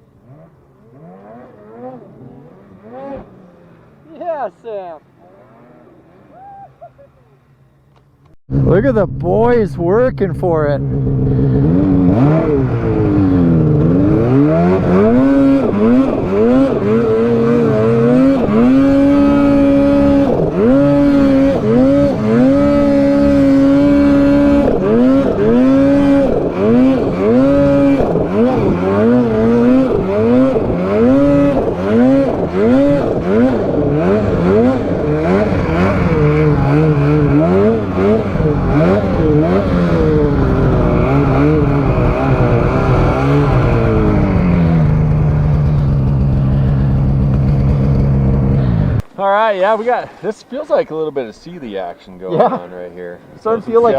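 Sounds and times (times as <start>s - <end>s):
snowmobile engine revving: 0.0s - 7.5s, 8.5s - 53.9s.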